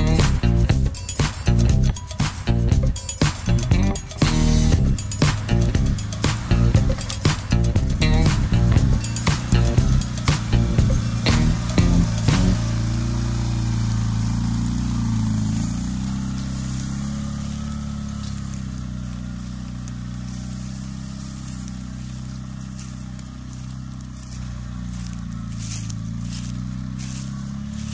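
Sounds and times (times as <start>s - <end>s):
atv engine running under load: 0.0s - 27.9s.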